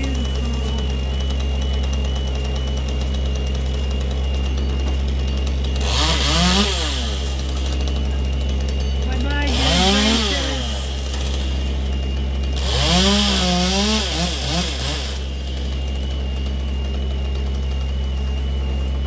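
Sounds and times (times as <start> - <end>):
chainsaw cutting wood: 0.0 - 17.8
low engine drone: 0.0 - 19.0.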